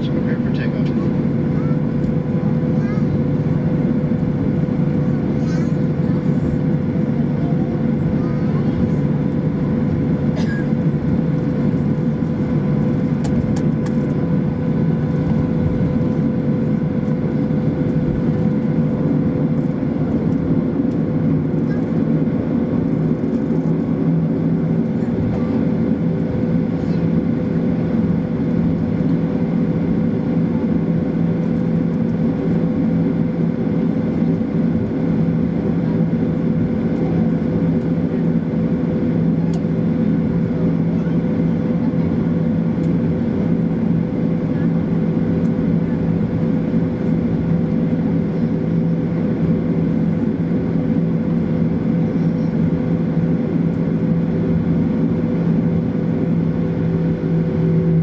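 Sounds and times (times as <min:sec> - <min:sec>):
cabin air conditioning rush: 0:00.0 - 0:58.0
jet engines humming: 0:00.0 - 0:58.0.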